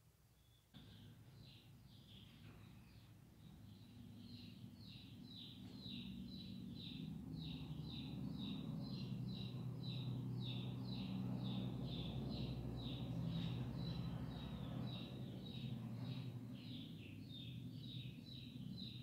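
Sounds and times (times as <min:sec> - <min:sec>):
small bird chirping: 0:00.4 - 0:19.0.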